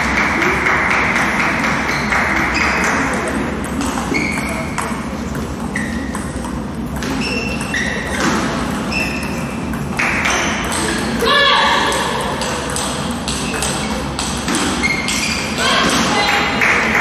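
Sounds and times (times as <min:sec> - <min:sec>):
table tennis balls pinging: 0:00.0 - 0:17.0.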